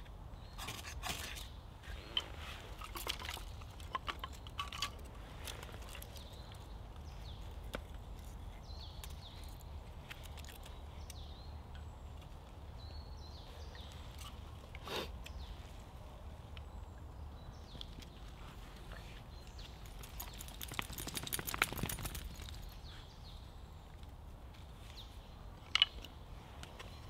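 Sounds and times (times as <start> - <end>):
small birds chirping: 5.3 - 27.0.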